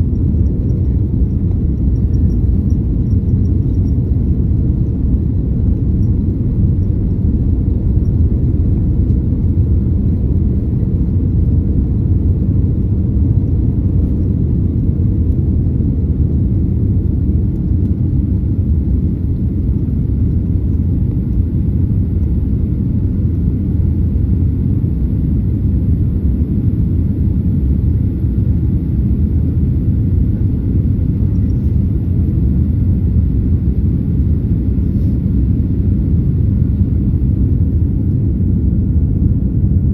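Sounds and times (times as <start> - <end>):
jet engines rumbling at takeoff: 0.0 - 39.9.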